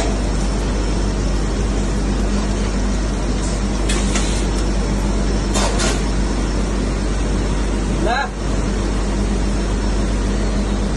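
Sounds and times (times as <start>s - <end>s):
machinery hum: 0.0s - 10.9s.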